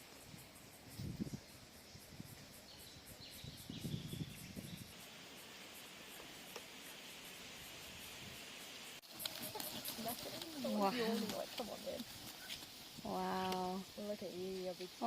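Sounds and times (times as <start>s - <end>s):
insect pulsing: 0.0s - 15.0s.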